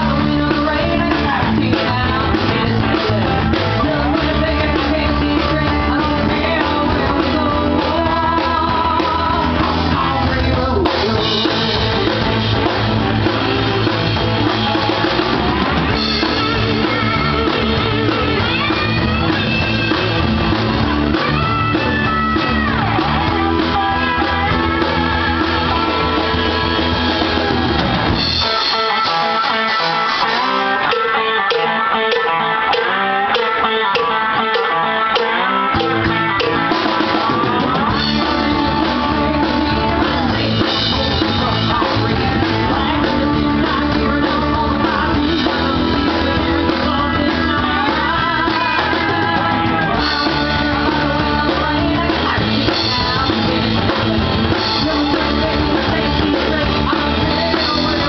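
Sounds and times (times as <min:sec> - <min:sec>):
person singing: 0:00.0 - 0:58.0
rock band playing: 0:00.0 - 0:58.0.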